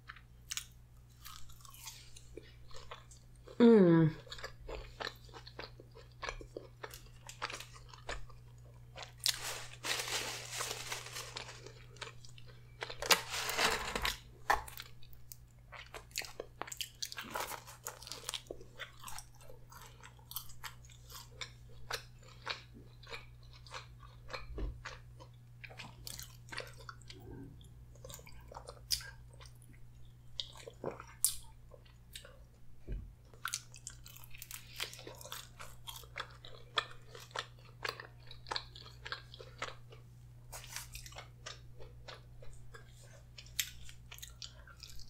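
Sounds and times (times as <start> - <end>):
food crunching and chewing: 0.0 - 32.6, 33.2 - 45.0.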